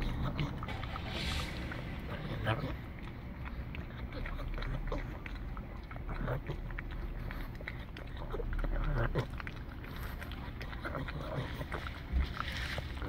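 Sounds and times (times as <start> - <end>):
dog licking ice cream: 0.0 - 13.0
low steady rumble: 0.0 - 13.0.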